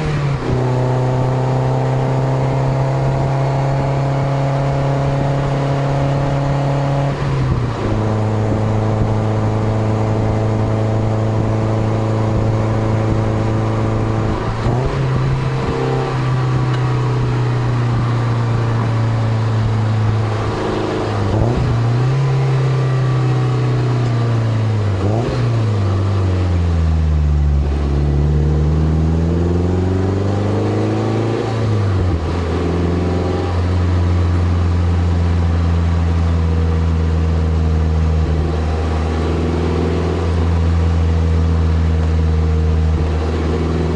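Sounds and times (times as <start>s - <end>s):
car engine through exhaust: 0.0s - 43.9s.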